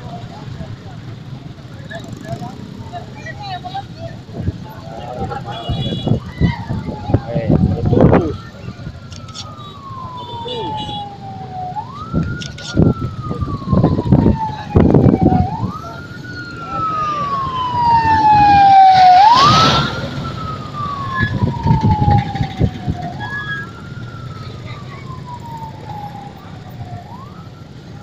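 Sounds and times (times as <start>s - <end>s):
emergency siren wailing: 3.5s - 28.0s.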